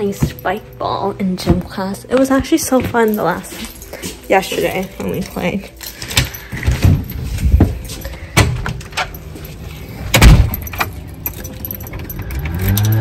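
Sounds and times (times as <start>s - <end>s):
keys jangling: 2.2s - 13.0s.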